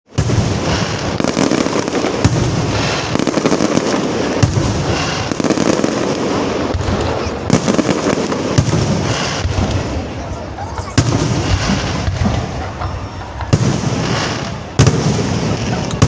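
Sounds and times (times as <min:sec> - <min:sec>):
fireworks crackling and banging: 0:00.1 - 0:16.0
loud firework booms: 0:00.1 - 0:16.0.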